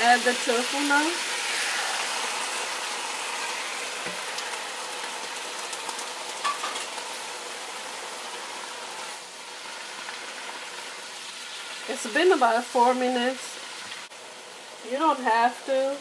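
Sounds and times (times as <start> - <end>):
food sizzling in frying pan: 0.0 - 16.0.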